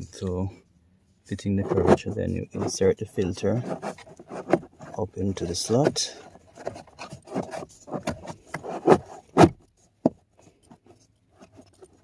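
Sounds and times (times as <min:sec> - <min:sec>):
filter scraping against plastic housing: 0:01.4 - 0:12.0.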